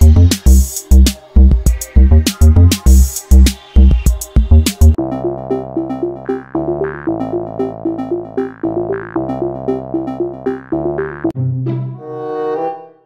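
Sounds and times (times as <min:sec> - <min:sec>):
synthesizer music: 0:00.0 - 0:13.0.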